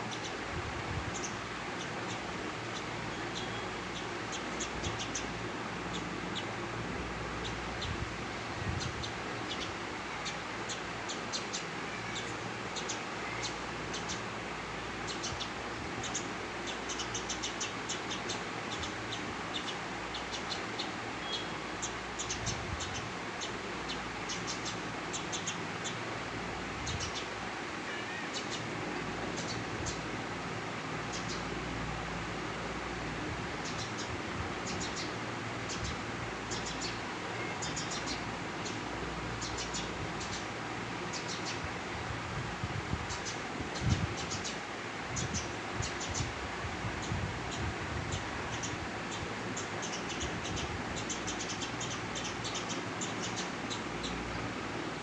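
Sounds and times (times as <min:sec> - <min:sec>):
small birds chirping: 0:00.0 - 0:42.2, 0:42.8 - 0:55.0
steady background hiss: 0:00.0 - 0:55.0.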